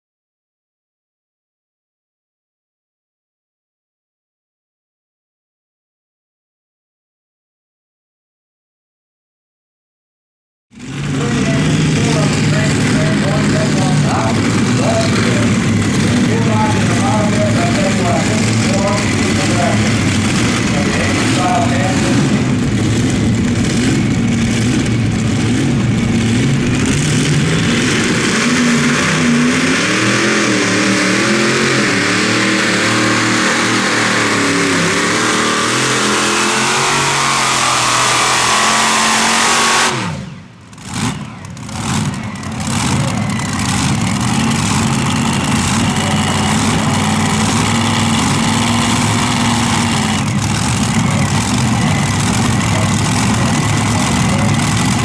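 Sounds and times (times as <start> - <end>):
tractor engine under heavy load: 10.7 - 55.0.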